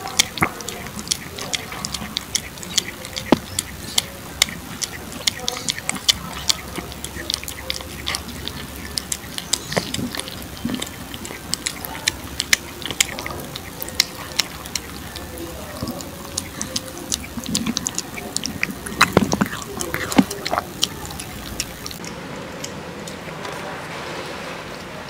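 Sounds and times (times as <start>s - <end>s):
cat eating wet food: 0.0s - 25.0s.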